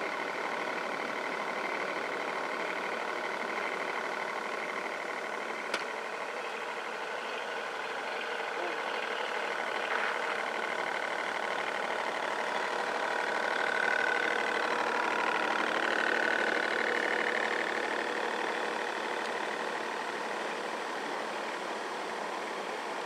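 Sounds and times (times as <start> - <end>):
model boat motors droning: 0.0 - 23.0
motor whine: 0.0 - 23.0.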